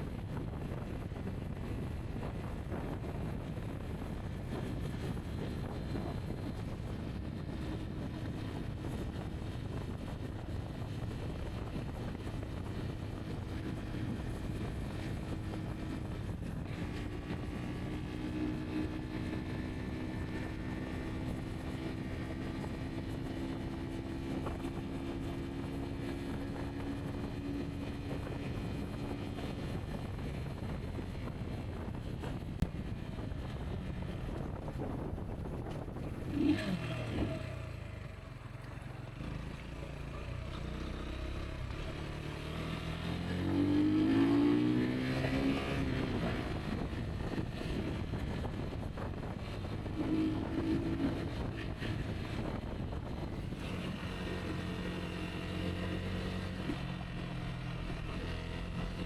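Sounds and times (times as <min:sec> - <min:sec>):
wind buffeting microphone: 0:00.0 - 0:40.2, 0:41.0 - 0:59.0
motorcycle engine running: 0:00.0 - 0:59.0.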